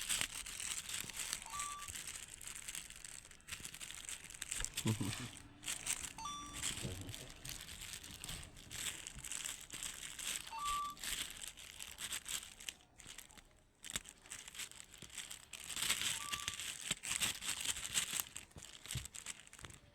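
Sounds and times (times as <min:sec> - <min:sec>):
crinkling and rustling: 0:00.0 - 0:19.9.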